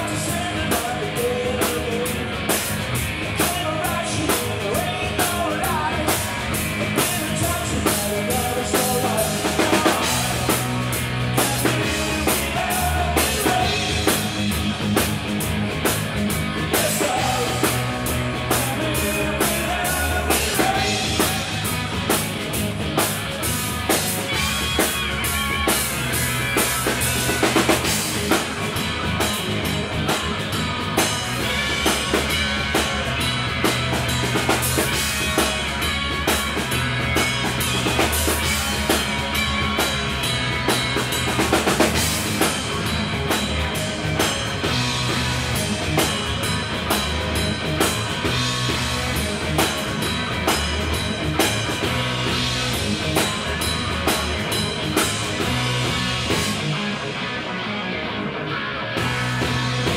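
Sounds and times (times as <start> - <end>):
drum kit: 0.0 - 58.1, 58.9 - 59.9
bass guitar: 0.0 - 59.9
electric guitars: 0.0 - 59.9.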